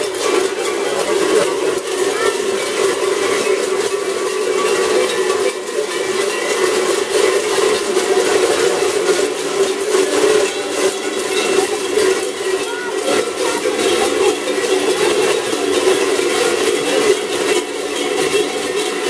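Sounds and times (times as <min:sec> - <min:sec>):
cowbells clanging: 0:00.0 - 0:19.0
crowd chatter: 0:00.0 - 0:19.0.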